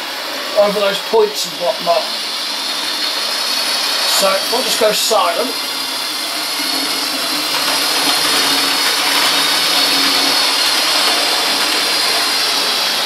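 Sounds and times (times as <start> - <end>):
model train motor whirring: 0.0 - 13.0.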